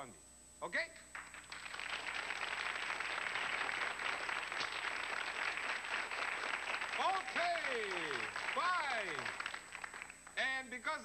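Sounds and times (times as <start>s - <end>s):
audience applauding: 1.1s - 10.4s.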